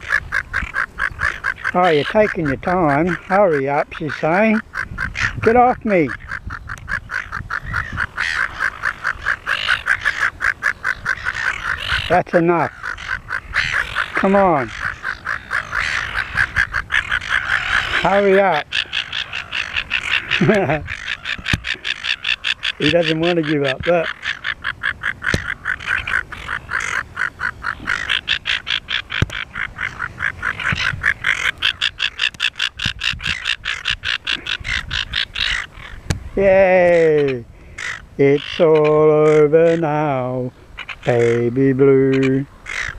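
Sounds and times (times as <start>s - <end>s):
gull calling: 0.0s - 42.9s.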